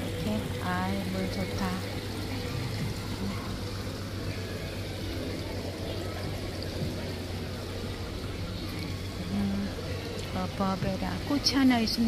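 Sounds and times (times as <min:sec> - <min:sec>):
low steady hum: 0:00.0 - 0:12.0
running water: 0:00.0 - 0:12.0.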